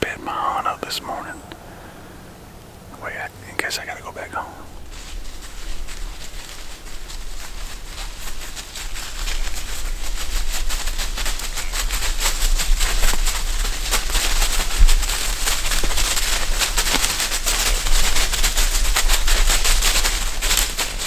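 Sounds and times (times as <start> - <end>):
low rumble: 0.0 - 21.0
dry leaves crackling and rustling: 3.0 - 21.0.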